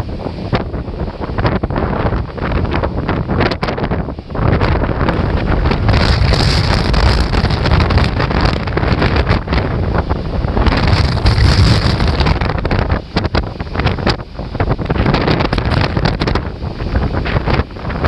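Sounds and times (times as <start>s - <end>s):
gusty wind buffeting microphone: 0.0s - 18.0s
large waves breaking: 0.0s - 18.0s.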